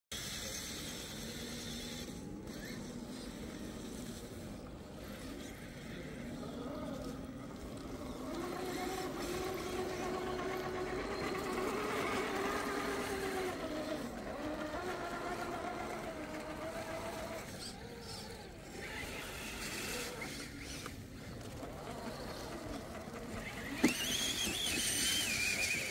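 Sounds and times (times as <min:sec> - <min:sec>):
rc car motor whining: 0:00.1 - 0:25.9.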